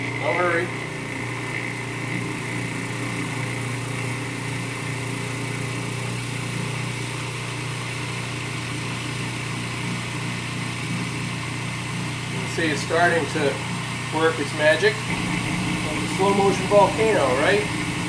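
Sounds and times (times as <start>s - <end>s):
food processor motor humming: 0.0s - 14.1s, 14.9s - 18.0s.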